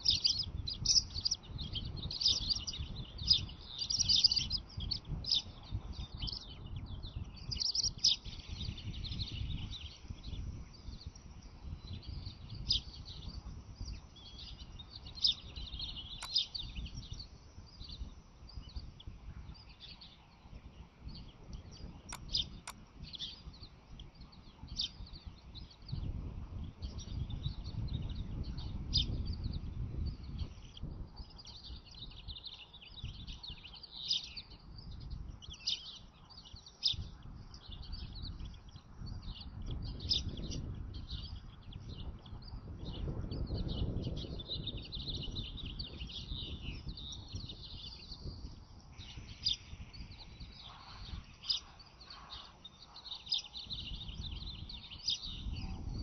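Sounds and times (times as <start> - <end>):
high bird chirps and twitters: 0.0 - 56.0.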